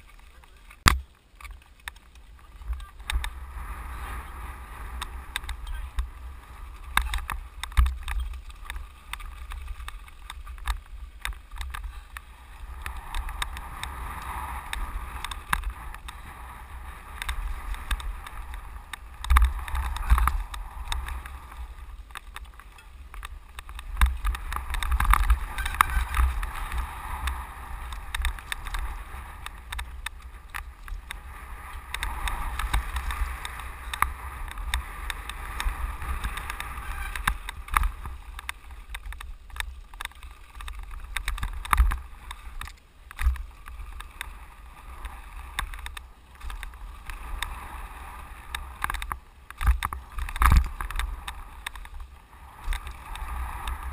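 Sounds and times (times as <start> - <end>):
wind rumbling on microphone: 0.0 - 53.9
bike rattling and knocking: 4.9 - 47.5, 48.2 - 53.9.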